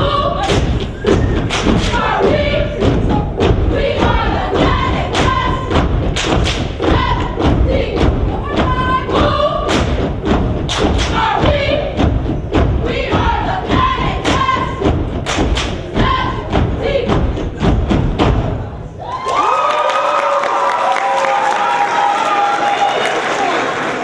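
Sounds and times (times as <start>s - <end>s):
rhythmic stomping and clapping: 0.0s - 24.0s.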